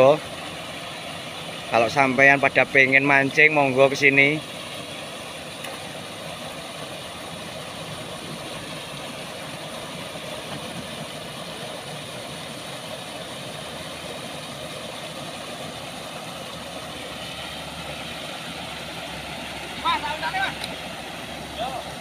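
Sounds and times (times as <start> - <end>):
water rushing over weir: 0.0 - 22.0.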